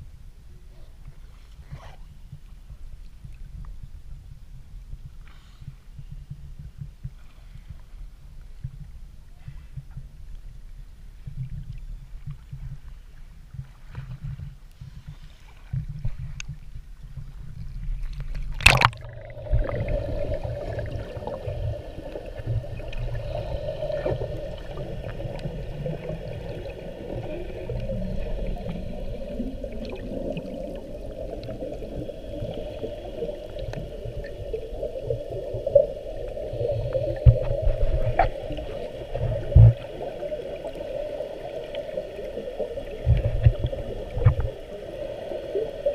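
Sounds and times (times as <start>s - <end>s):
muffled underwater hiss: 0.0s - 45.9s.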